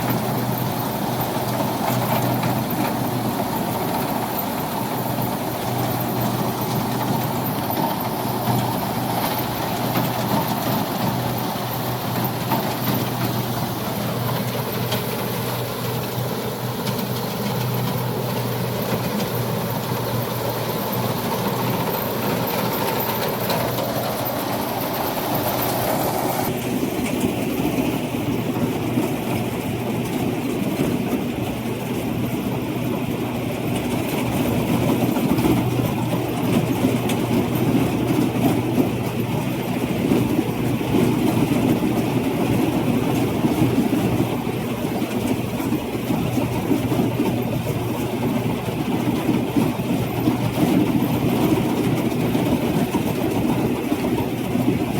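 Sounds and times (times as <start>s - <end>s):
harvester engine droning: 0.0s - 54.9s.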